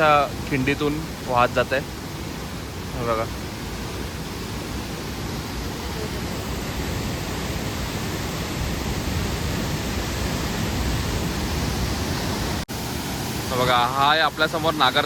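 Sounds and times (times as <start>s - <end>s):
waterfall roar: 0.0s - 15.0s.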